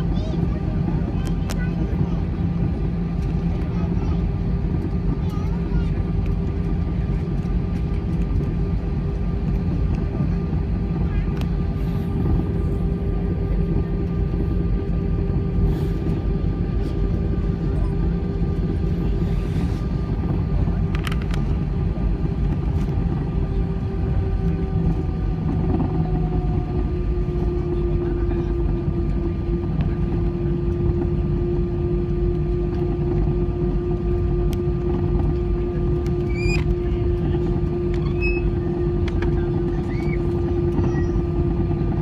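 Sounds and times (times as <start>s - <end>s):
jet engines idling: 0.0s - 42.0s.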